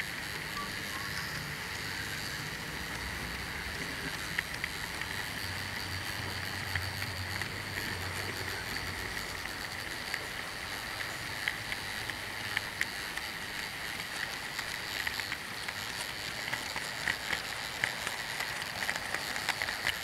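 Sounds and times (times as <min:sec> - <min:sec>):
model train motor whirring: 0:00.0 - 0:20.0
wheels clicking over rail joints: 0:00.0 - 0:20.0.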